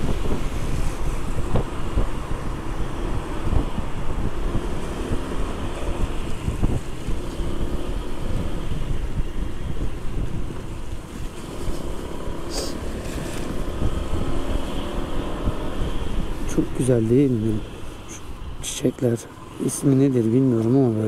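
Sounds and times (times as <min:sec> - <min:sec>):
scooter engine humming: 0:00.0 - 0:20.7
tyres on wet asphalt: 0:00.0 - 0:21.0
wind buffeting microphone: 0:00.0 - 0:21.0.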